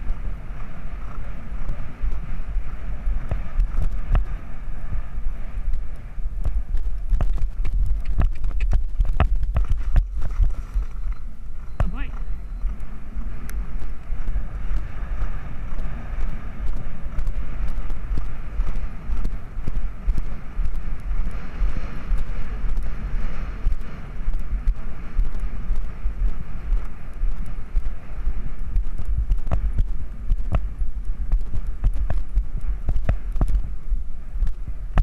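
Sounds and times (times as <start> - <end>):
horse hoofbeats galloping on turf: 0.0 - 10.9, 11.6 - 35.0
wind rumbling on microphone: 0.0 - 35.0.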